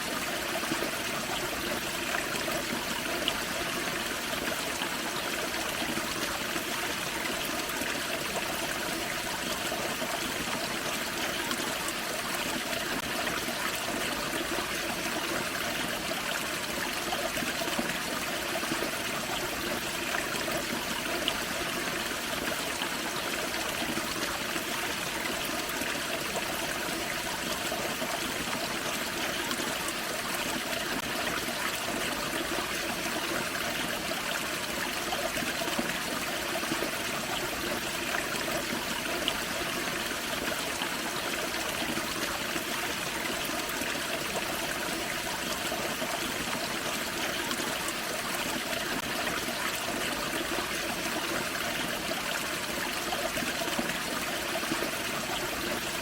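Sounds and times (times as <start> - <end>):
creek water rushing and trickling: 0.0 - 56.0.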